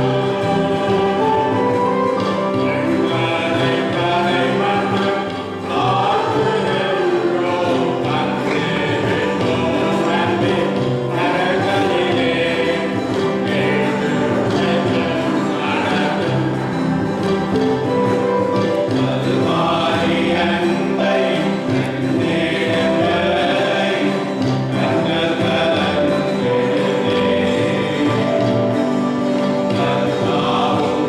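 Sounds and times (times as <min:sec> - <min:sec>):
mixed choir singing a carol: 0:00.0 - 0:31.0.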